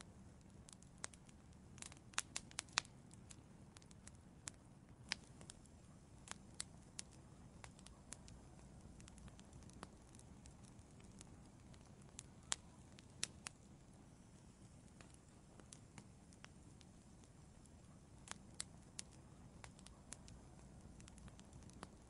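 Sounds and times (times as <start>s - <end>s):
faint low rumble: 0.0s - 22.0s
wood fire crackling and popping: 0.0s - 22.0s.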